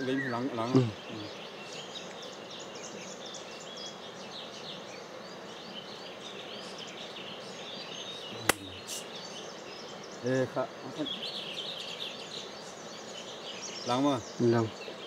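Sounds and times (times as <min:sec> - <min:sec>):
background hiss: 0:00.0 - 0:15.0
small birds chirping: 0:00.0 - 0:15.0.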